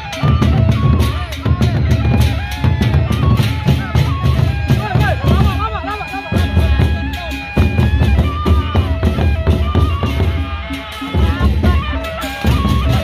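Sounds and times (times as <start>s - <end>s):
barrel drums beaten fast: 0.0s - 13.0s
hand cymbals clashing: 0.0s - 13.0s
held melodic tones: 0.0s - 13.0s.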